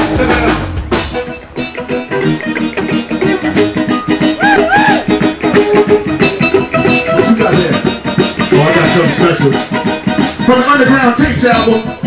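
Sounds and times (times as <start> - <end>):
drum kit beat: 0.0 - 12.0
electric bass: 0.0 - 12.0
live band hip-hop groove: 0.0 - 12.0.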